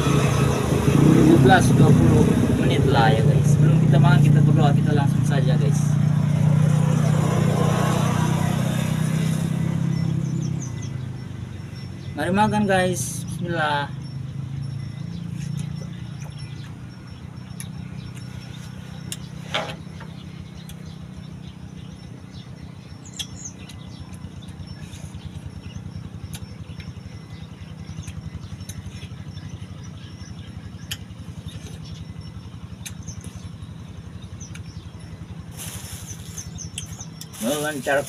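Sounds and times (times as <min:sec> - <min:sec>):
low pulsing drone: 0:00.0 - 0:37.8
bird chirping: 0:00.0 - 0:38.0.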